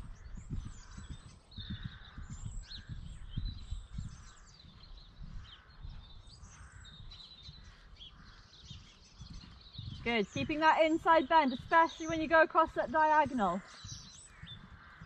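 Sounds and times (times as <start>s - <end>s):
small birds chirping: 0.0s - 15.0s
wind buffeting microphone: 0.0s - 15.0s.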